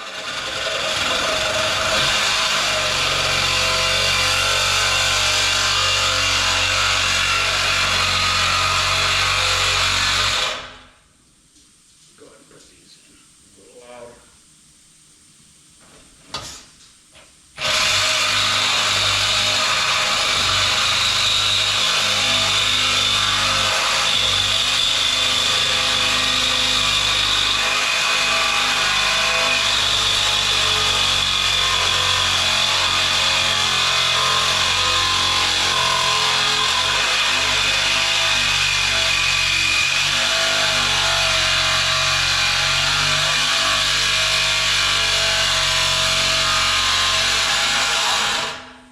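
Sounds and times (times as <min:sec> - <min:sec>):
power saw cutting metal tubing: 0:00.0 - 0:10.8, 0:17.6 - 0:48.8.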